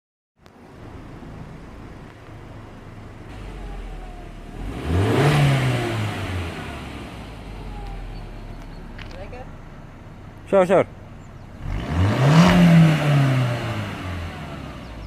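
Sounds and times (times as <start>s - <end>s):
car engine idling and revving: 0.4s - 15.0s.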